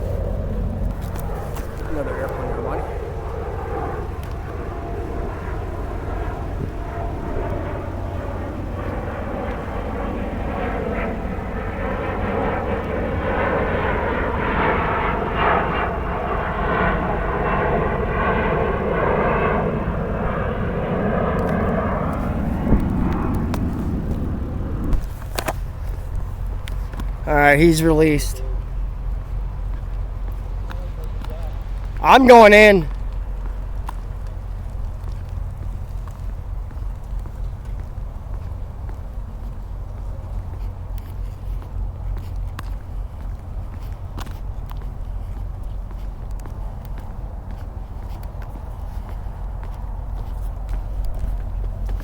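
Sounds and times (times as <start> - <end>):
airplane engine passing overhead: 0.0 - 52.0
steady low rumble: 0.0 - 52.0.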